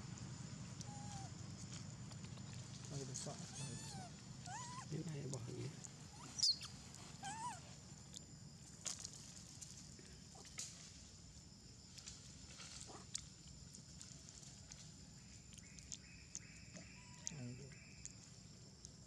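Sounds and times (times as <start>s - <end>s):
faint background hum: 0.0s - 19.0s.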